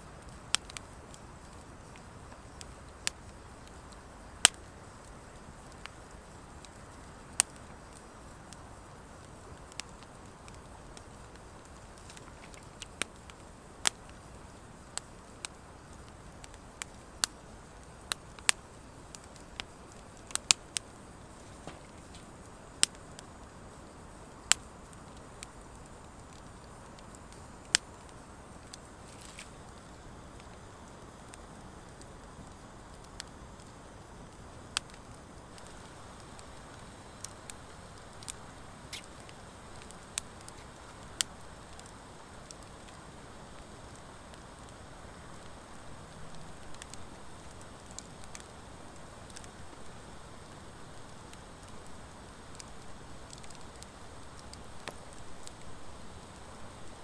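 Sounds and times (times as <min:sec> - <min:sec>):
fire crackling and popping: 0:00.0 - 0:57.0
flames hissing: 0:00.0 - 0:57.0.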